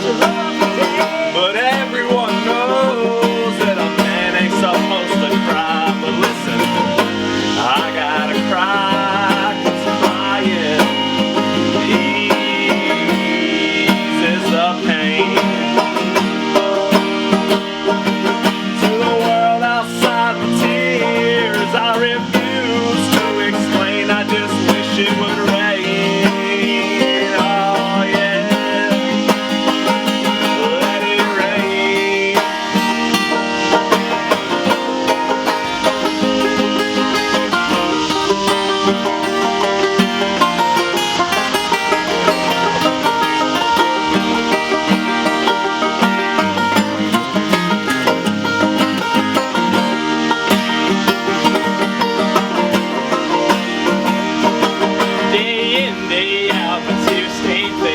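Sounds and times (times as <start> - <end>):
banjo playing: 0.0 - 57.9
guitar playing: 0.0 - 57.9.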